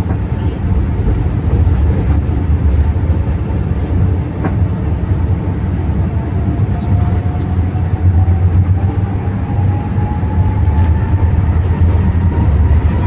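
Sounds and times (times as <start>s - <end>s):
jet engines rumbling: 0.0s - 13.0s
wheels running on runway: 0.0s - 13.0s.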